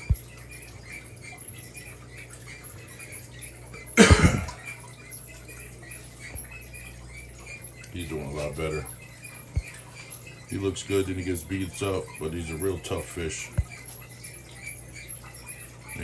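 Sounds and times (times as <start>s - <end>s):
aquarium equipment humming: 0.0s - 16.0s
water pattering: 0.0s - 16.0s.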